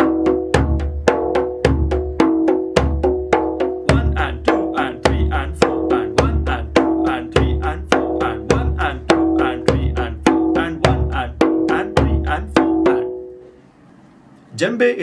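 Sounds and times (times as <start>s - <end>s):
djembe drumming: 0.0s - 13.3s.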